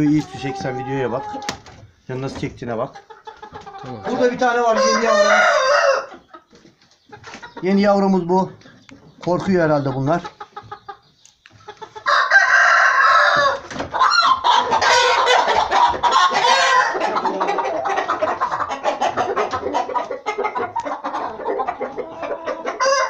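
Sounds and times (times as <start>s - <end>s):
rooster squawking and clucking: 0.0s - 7.8s, 8.5s - 23.0s.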